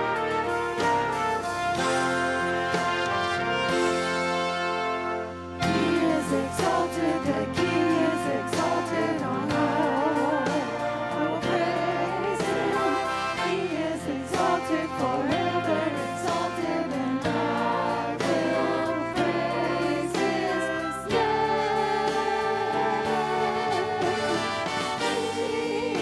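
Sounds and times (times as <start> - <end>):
worship music with singing: 0.0 - 26.0.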